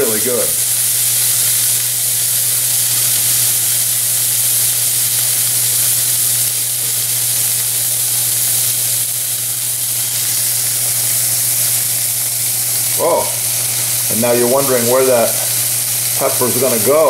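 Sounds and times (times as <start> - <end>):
pepper sizzling in a pan: 0.0 - 17.0.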